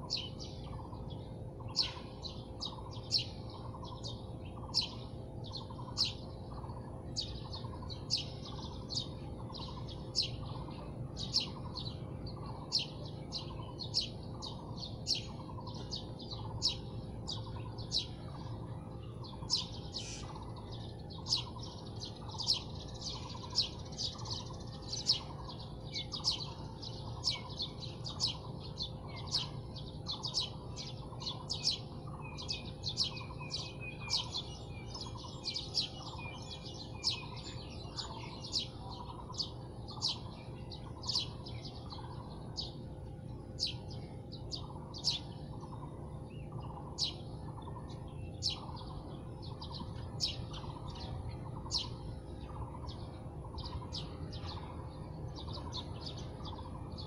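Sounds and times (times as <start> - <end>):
low steady rumble: 0.0 - 57.0
small birds chirping: 0.0 - 57.0.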